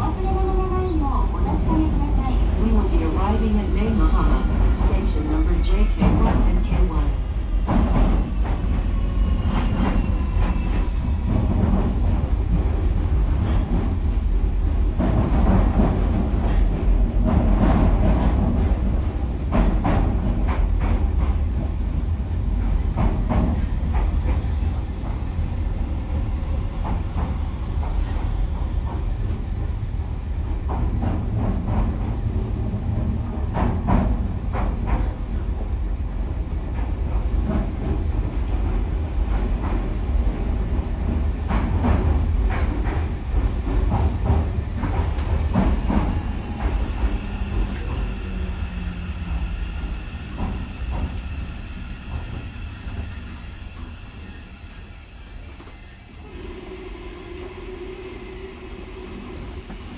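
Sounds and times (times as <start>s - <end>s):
electric train low rumble: 0.0s - 59.9s.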